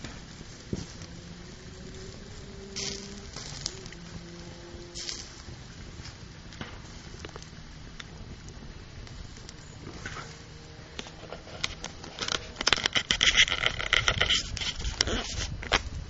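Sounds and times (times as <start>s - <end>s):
low rumble: 0.0s - 16.0s
wood fire crackling and popping: 0.0s - 16.0s.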